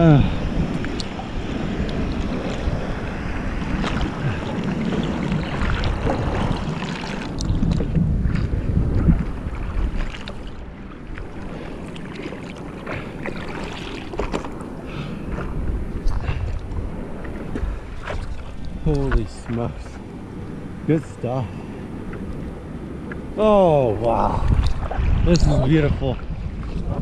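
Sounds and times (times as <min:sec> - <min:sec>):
wind on microphone: 0:00.0 - 0:11.6, 0:15.1 - 0:20.3, 0:21.9 - 0:27.0
water sloshing and splashing: 0:00.0 - 0:27.0.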